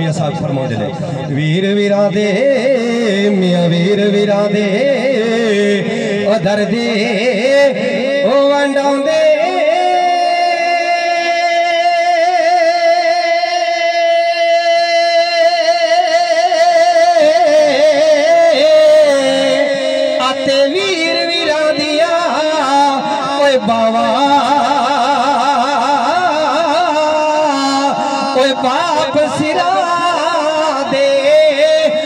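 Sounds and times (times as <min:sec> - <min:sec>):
man singing through loudspeaker: 0:00.0 - 0:32.0.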